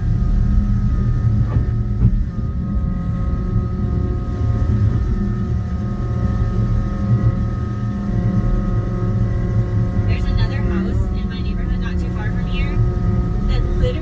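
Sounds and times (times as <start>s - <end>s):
diesel engine running: 0.0s - 14.0s
steady whine: 0.0s - 14.0s.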